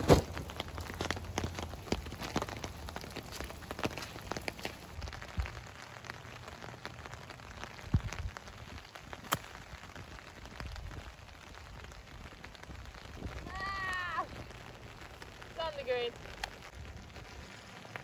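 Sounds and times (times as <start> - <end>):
heavy rain pattering: 0.0 - 18.0.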